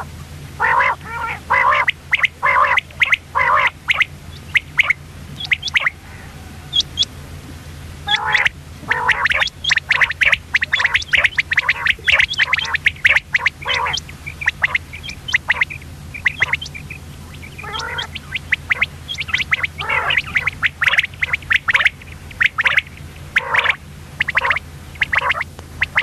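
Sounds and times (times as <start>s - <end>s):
quail chirping: 0.0s - 7.2s, 8.0s - 26.0s
rasping bird call: 0.0s - 7.2s, 8.0s - 26.0s
steady low hum: 0.0s - 26.0s.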